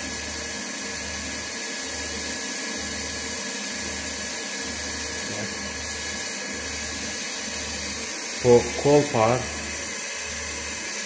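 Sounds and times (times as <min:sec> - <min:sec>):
water pump running: 0:00.0 - 0:11.0.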